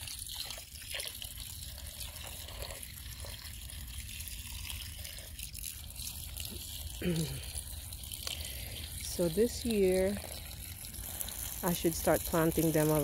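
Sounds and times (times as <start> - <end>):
hose water running into metal bowl: 0.0 - 13.0.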